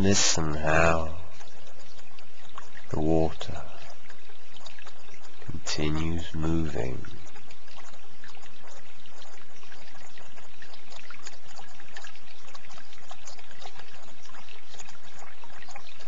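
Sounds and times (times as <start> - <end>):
running water trickling: 0.0 - 16.0.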